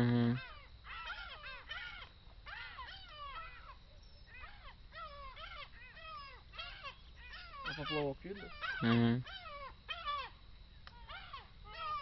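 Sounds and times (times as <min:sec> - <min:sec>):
animals crying out: 0:00.2 - 0:12.0.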